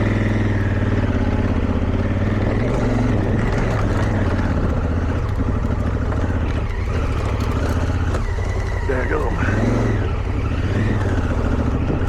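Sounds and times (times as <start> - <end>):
motorcycle engine under load: 0.0 - 12.0.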